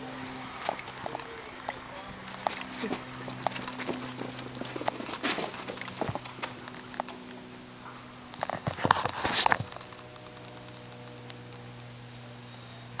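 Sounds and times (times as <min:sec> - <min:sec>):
electrical hum: 0:00.0 - 0:13.0
rustles and knocks: 0:00.6 - 0:11.0.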